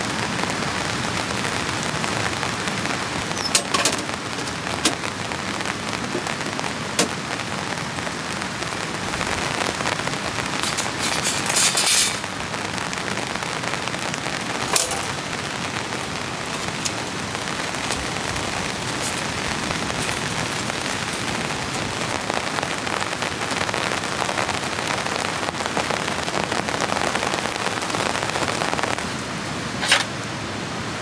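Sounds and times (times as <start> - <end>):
heavy rain on a tent: 0.0 - 31.0.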